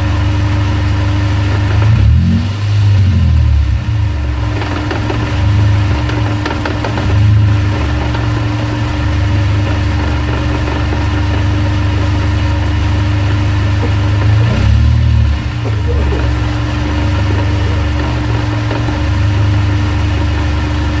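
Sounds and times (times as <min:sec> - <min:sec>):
car engine idling: 0:00.0 - 0:21.0
drivetrain rattle: 0:00.0 - 0:21.0.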